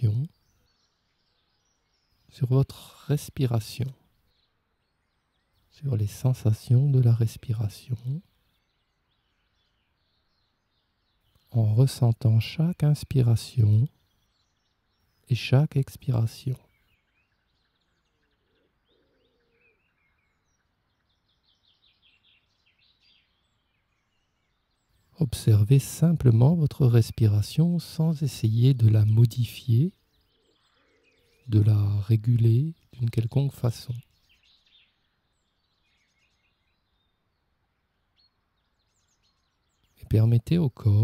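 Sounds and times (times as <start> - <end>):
faint background hiss: 0.0 - 41.0
small birds chirping: 0.0 - 41.0.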